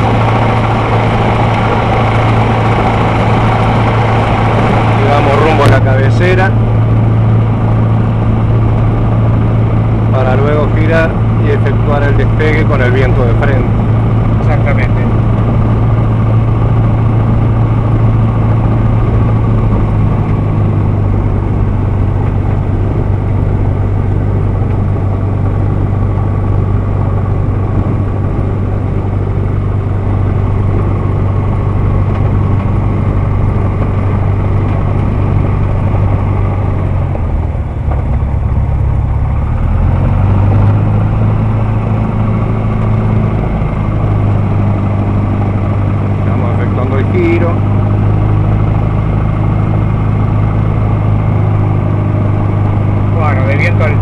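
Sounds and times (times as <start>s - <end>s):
light plane engine drone: 0.0s - 54.0s.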